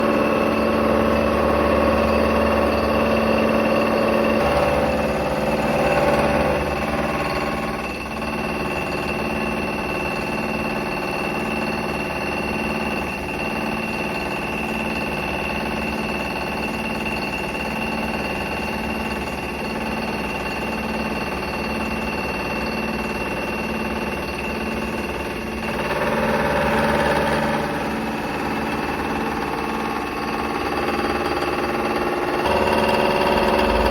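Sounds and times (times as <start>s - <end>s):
milling machine spindle whine: 0.0s - 33.9s.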